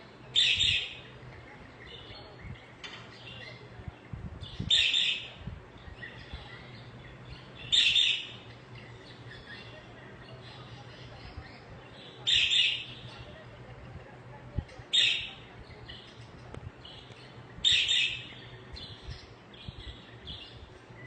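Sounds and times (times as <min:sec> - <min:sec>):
budgerigars chirping and warbling: 0:00.3 - 0:13.4, 0:14.8 - 0:20.8.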